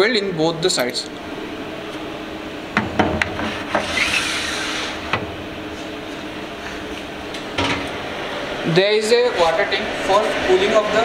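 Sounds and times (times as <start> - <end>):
faint machine hum: 0.0 - 11.0.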